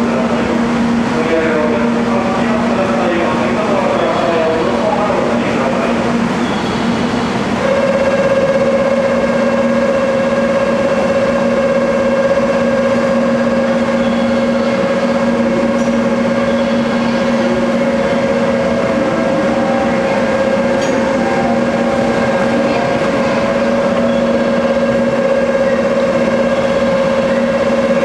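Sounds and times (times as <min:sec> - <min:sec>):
constant two-pitch hum: 0:00.0 - 0:28.0
electric train rumbling: 0:00.0 - 0:28.0.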